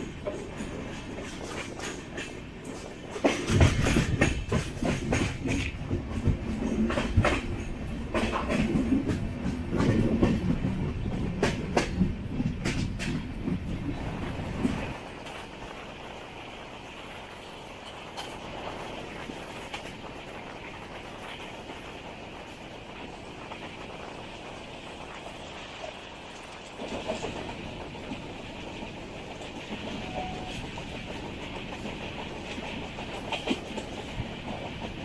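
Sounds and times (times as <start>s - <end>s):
train wheels clattering: 0.0s - 16.4s, 17.0s - 35.0s.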